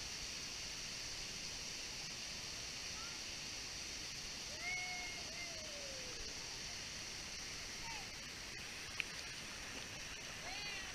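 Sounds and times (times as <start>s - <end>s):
waterfall and creek rushing: 0.0s - 10.9s.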